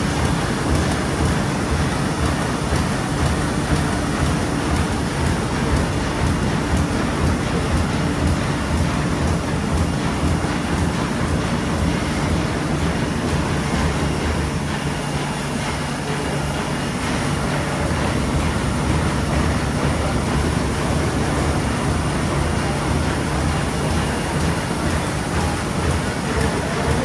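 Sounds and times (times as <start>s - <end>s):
book-sewing machine running: 0.0s - 27.0s.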